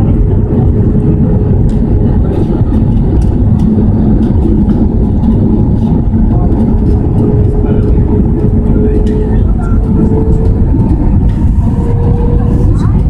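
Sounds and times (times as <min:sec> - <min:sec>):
jet engine cabin noise: 0:00.0 - 0:13.0.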